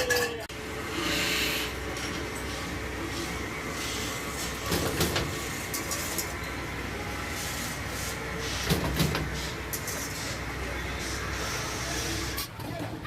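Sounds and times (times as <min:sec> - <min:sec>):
machine hum: 0:00.5 - 0:12.4.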